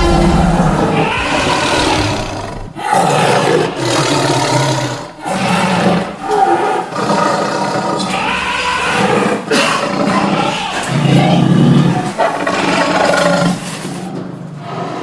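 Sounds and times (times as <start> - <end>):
loud creature roars: 0.0 - 13.6.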